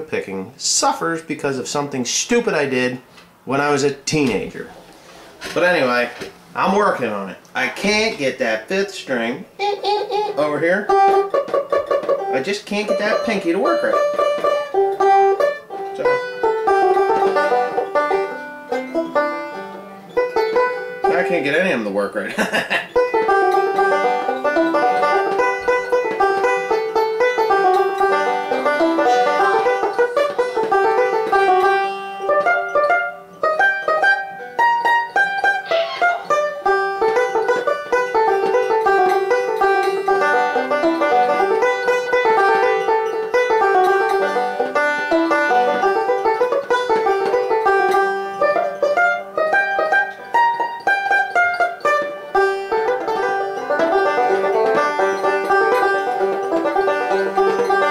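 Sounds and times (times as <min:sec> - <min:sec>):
banjo fingerpicking: 0:01.7 - 0:57.9.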